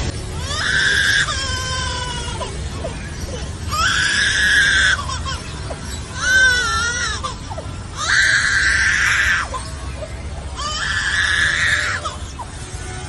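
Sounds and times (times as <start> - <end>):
bird mimicking baby crying: 0.4 - 9.8, 10.6 - 12.5.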